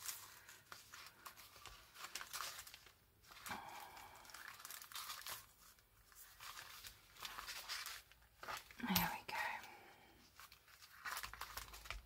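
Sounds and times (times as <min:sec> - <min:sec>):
paper and card rustling: 0:00.0 - 0:12.0.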